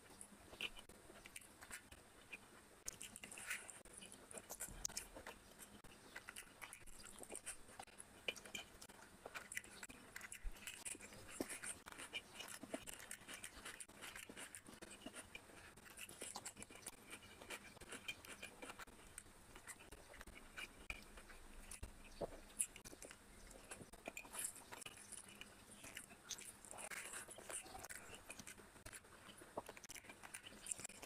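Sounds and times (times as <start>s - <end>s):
chewing with wet mouth clicks: 0.0s - 31.0s
fingers working rice on plate: 0.0s - 31.0s.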